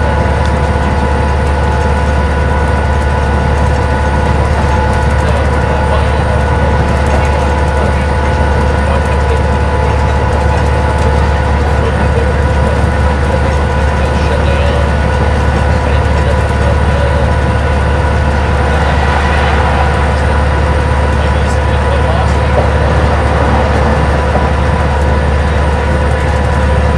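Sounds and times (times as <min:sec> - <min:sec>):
diesel engine drone: 0:00.0 - 0:26.9
road noise: 0:00.0 - 0:26.9
steady whine: 0:00.0 - 0:26.9.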